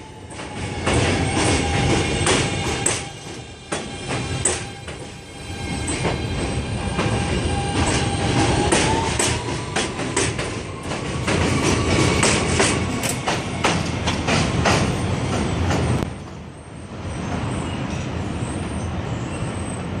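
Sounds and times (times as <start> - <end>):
train rumble: 0.0 - 20.0
train wheels clicking on rail joints: 0.2 - 16.4.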